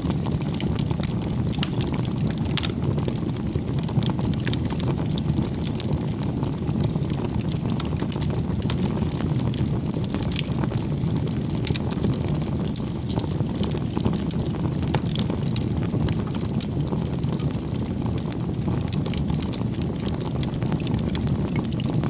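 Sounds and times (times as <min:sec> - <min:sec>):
burning wood popping and snapping: 0:00.0 - 0:22.0
campfire flames rumbling: 0:00.0 - 0:22.0.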